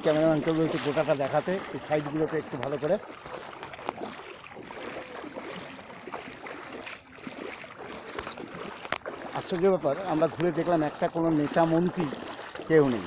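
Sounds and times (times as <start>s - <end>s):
water sloshing around wading legs: 0.0s - 13.0s.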